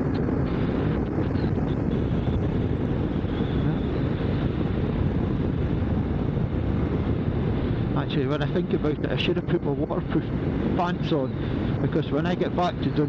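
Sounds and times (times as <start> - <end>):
motorcycle engine noise: 0.0 - 13.0
wind rush: 0.0 - 13.0.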